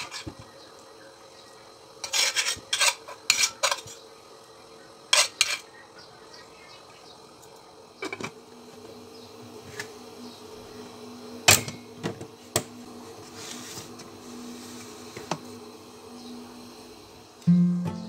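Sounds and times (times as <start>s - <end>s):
steady buzzing hum: 0.0s - 18.0s.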